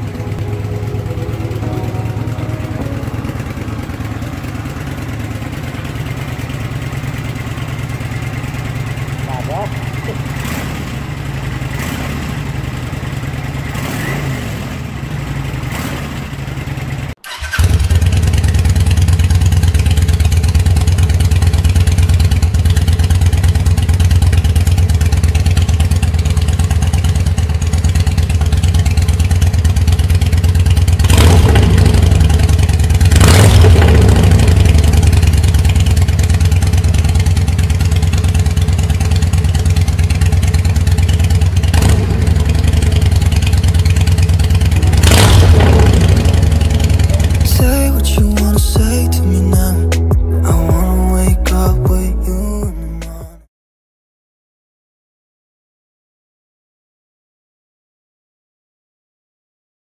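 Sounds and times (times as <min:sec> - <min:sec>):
motorcycle throttle blips: 0:00.0 - 0:49.1
motorcycle engine idling: 0:00.0 - 0:53.4.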